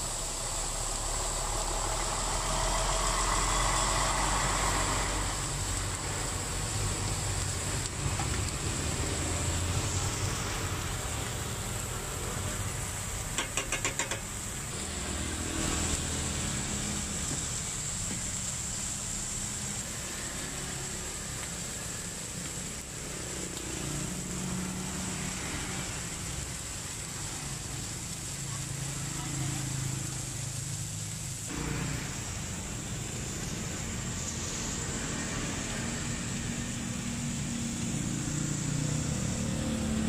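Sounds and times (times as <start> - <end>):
burger patties sizzling on griddle: 0.0 - 40.0
car and motorbike engines passing: 0.0 - 40.0
road traffic: 0.0 - 40.0.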